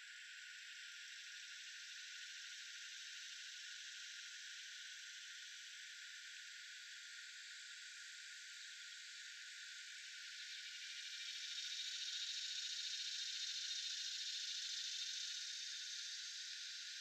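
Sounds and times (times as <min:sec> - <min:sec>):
high-pitched outdoor hiss: 0:00.0 - 0:17.0.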